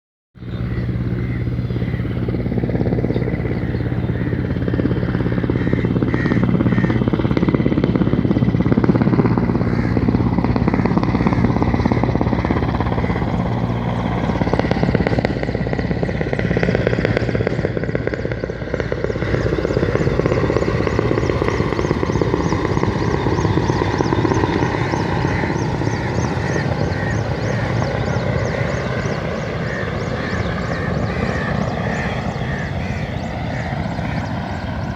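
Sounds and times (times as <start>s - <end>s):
helicopter engine hum: 0.4s - 34.9s
helicopter rotor chopping: 0.4s - 34.9s.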